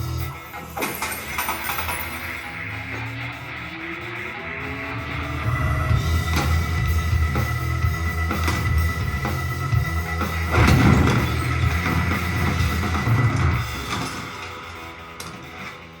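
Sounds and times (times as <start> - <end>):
music with drums and heavy bass: 0.0 - 0.8, 2.4 - 16.0.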